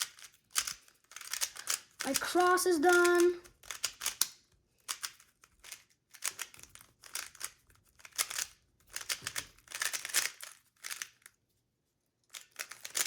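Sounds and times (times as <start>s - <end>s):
plastic puzzle cube clicking: 0.0s - 11.3s, 12.3s - 13.0s.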